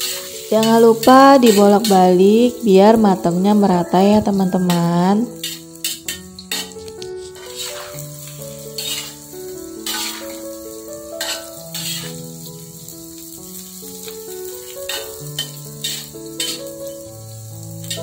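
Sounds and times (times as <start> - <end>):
metal spatula scraping wok: 0.0 - 2.3, 3.2 - 10.6, 11.2 - 18.0
background music: 0.0 - 18.0
food sizzling in oil: 0.0 - 18.0.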